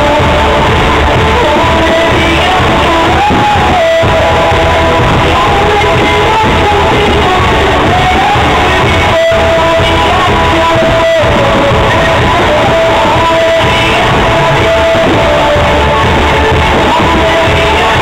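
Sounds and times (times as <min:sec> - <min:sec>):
loud rock music with singing: 0:00.0 - 0:18.0.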